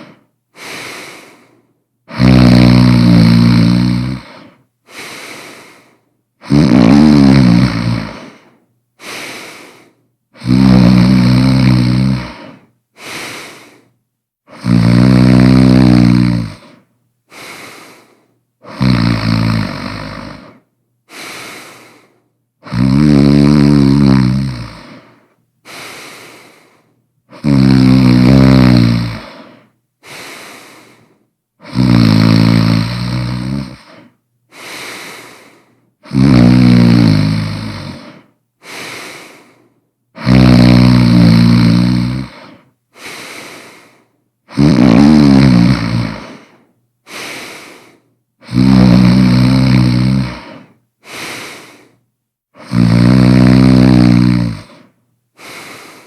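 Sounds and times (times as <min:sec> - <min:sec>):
person snoring loudly: 0:00.0 - 0:13.9, 0:14.5 - 0:39.6, 0:40.2 - 0:52.0, 0:52.6 - 0:56.0.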